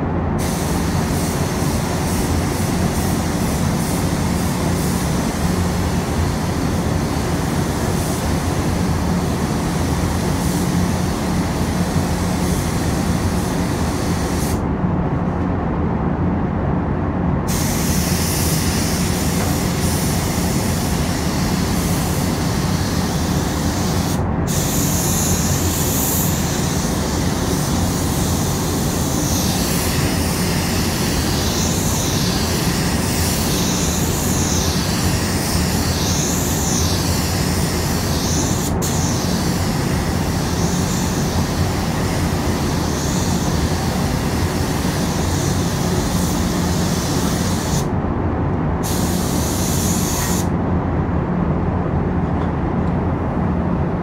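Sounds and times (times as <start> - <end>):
ventilation hum: 0.0 - 54.0
paint spray gun hissing: 0.4 - 14.6, 17.5 - 47.9, 48.8 - 50.5.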